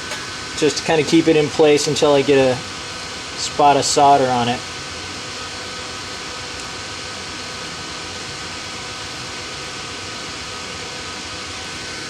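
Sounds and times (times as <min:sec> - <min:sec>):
fan-like hiss: 0:00.0 - 0:12.0.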